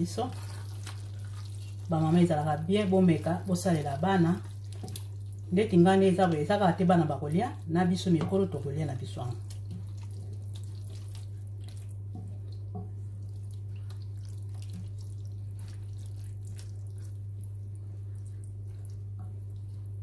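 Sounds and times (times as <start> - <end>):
stew simmering with pops: 0.0 - 5.5, 9.2 - 20.0.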